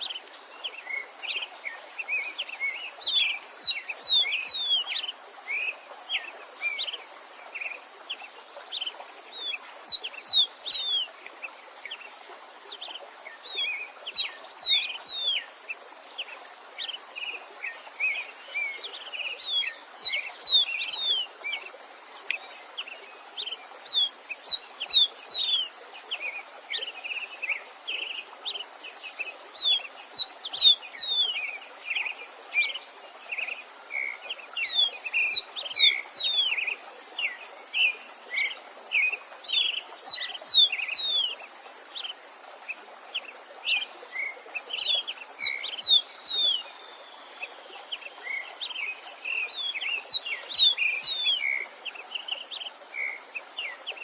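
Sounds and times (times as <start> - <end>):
running water hiss: 0.0 - 54.0
songbird singing: 0.0 - 54.0.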